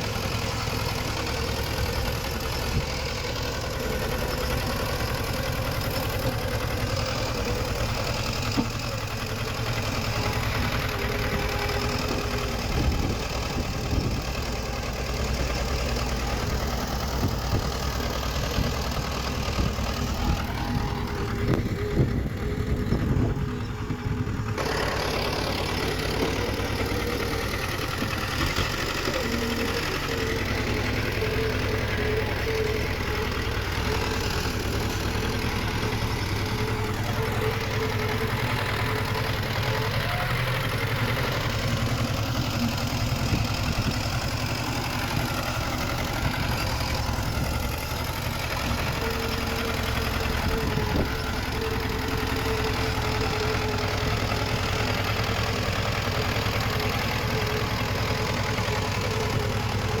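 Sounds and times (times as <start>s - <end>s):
heavy machinery diesel engine: 0.0s - 60.0s.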